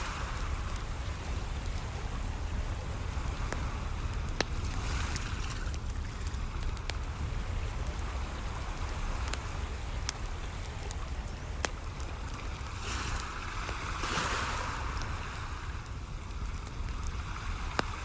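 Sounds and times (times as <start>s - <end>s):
waves washing in: 0.0s - 18.0s
wood fire crackling: 0.0s - 18.0s.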